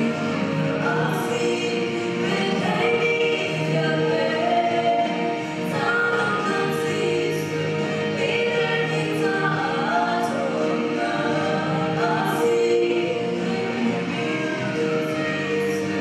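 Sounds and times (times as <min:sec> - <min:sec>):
women singing gospel in harmony: 0:00.0 - 0:16.0.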